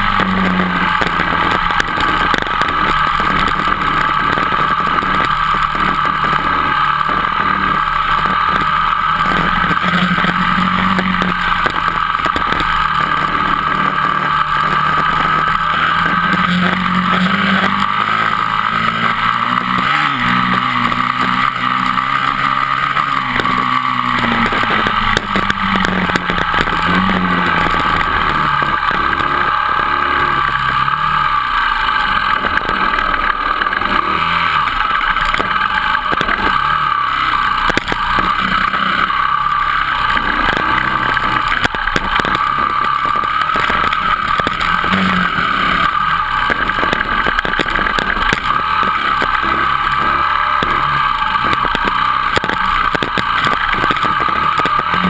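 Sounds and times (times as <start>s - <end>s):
dirt bike engine: 0.0s - 55.0s
wind and road noise: 0.0s - 55.0s.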